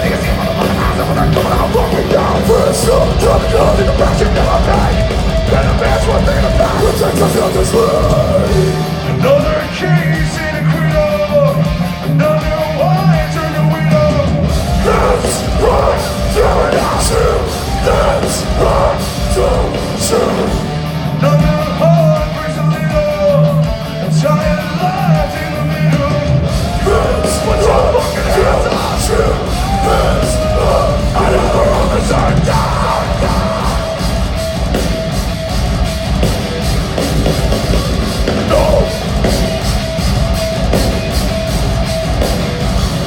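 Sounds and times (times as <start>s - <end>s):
singer yelling vocals: 0.0s - 34.6s, 38.2s - 39.7s
bass: 0.0s - 43.0s
drums: 0.0s - 43.0s
electric guitars: 0.0s - 43.0s.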